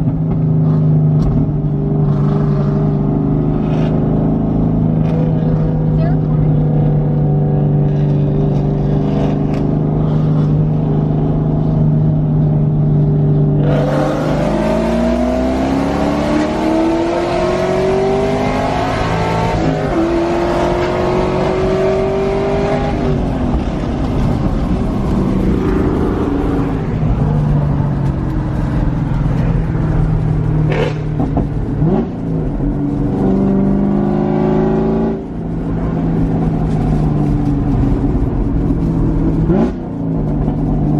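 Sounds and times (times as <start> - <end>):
car engine and loud exhaust revving: 0.0 - 40.9.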